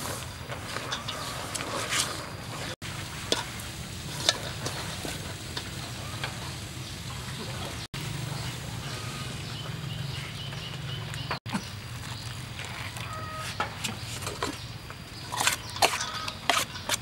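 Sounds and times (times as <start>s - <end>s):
wood fire crackling: 0.0s - 15.8s.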